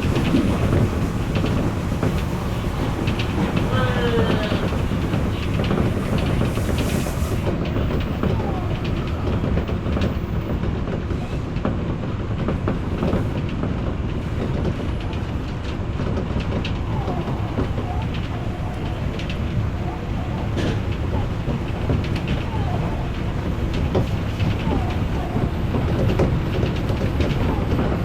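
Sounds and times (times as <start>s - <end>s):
electric train rumbling: 0.0s - 28.0s
wheels clicking over rails: 0.0s - 28.0s.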